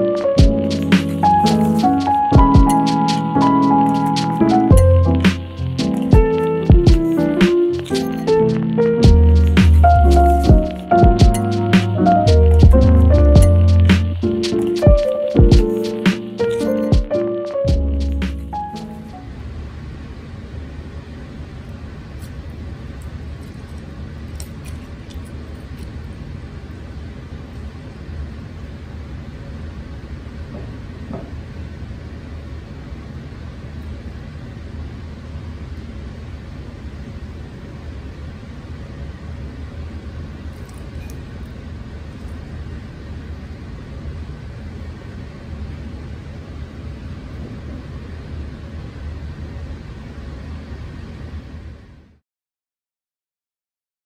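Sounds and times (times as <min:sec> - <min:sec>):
low rumbling background noise: 0:00.0 - 0:15.3, 0:16.0 - 0:52.2.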